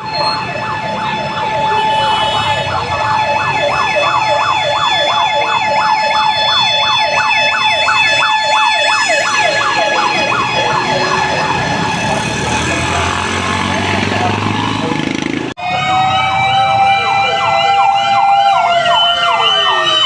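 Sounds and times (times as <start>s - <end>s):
steady held siren tone: 0.0s - 13.0s, 15.6s - 20.0s
fire truck siren yelping: 0.0s - 20.0s.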